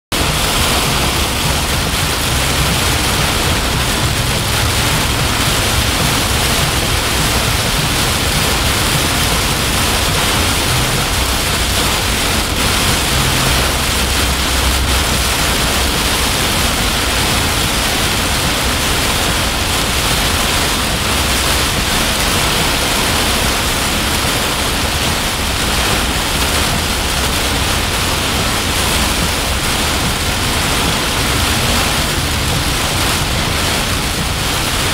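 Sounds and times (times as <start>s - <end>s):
heavy rain on vehicle roof: 0.1s - 34.9s
low rumble: 0.1s - 34.9s.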